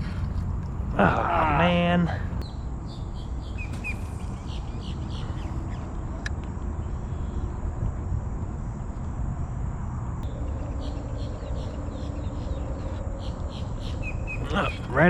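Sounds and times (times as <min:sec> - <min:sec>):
insects or birds chirping: 0:00.0 - 0:15.0.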